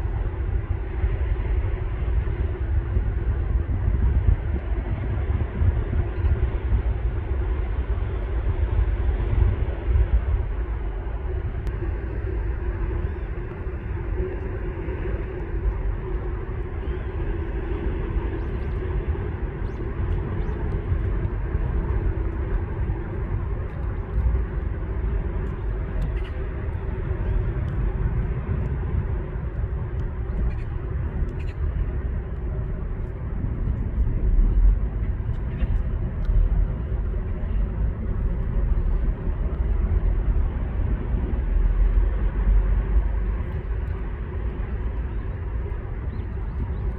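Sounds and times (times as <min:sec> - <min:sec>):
outdoor background rumble: 0:00.0 - 0:46.9.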